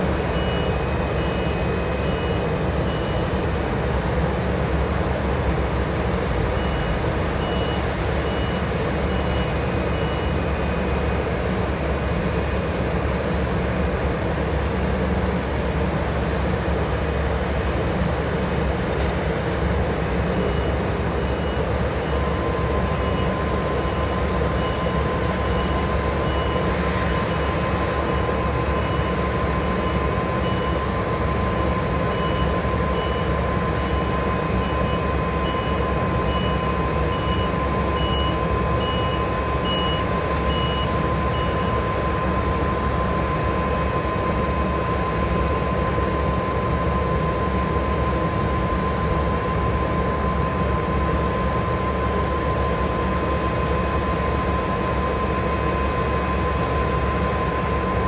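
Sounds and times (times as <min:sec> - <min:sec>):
jet engine whine and rumble: 0:00.0 - 0:58.0.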